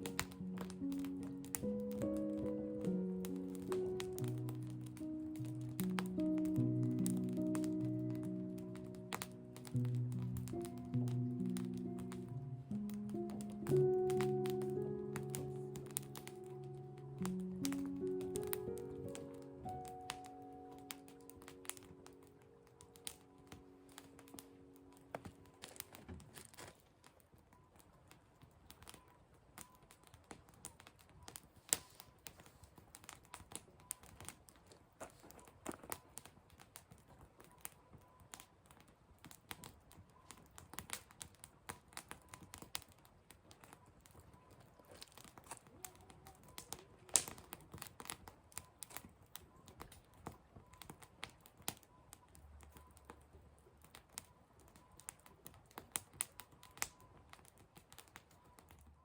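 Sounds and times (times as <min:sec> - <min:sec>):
fire crackling: 0:00.0 - 0:59.0
sharp pops and snaps of fire: 0:00.0 - 0:59.0.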